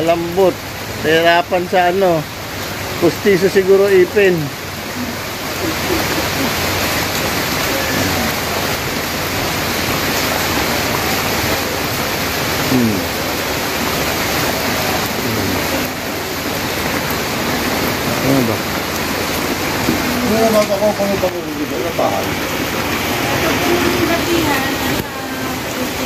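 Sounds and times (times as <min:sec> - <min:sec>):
rain on wet concrete and puddles: 0:00.0 - 0:26.0.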